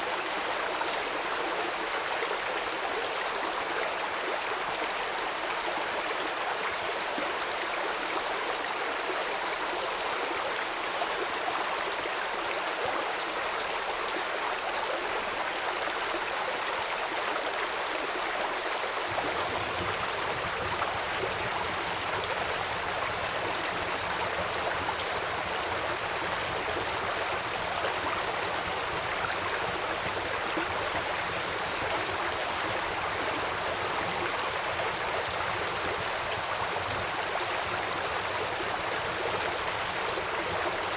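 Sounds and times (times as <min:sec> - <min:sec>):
rain: 0:00.0 - 0:40.9
stream flowing: 0:00.0 - 0:40.9.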